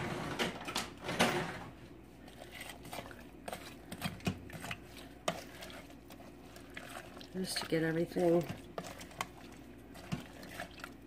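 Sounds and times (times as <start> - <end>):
liquid sloshing in a pot: 1.9 - 11.0.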